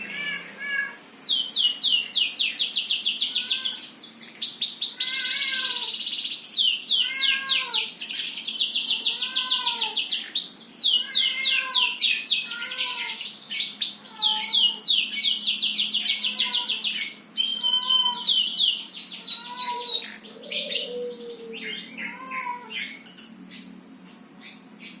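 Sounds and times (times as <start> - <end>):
songbirds trilling: 0.0 - 25.0.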